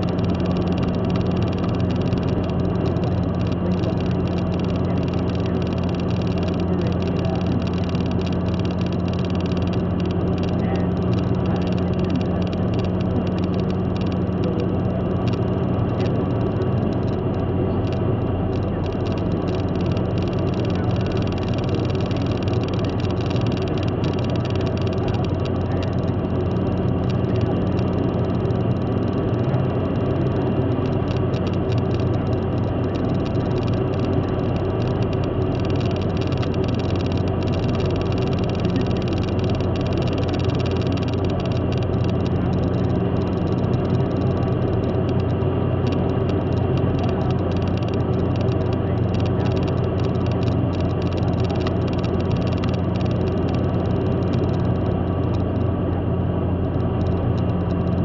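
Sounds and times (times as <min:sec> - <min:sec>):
car engine hum: 0:00.0 - 0:58.0
road and tyre noise: 0:00.0 - 0:58.0.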